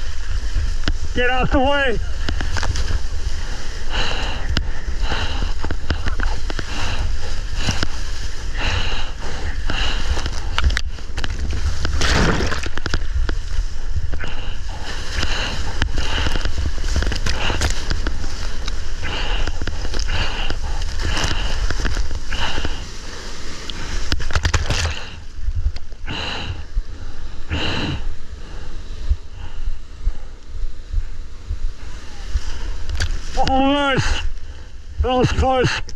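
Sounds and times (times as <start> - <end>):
paddling water splashes: 0.0 - 30.0, 30.8 - 35.8
wind and water rumble on microphone: 0.0 - 35.9.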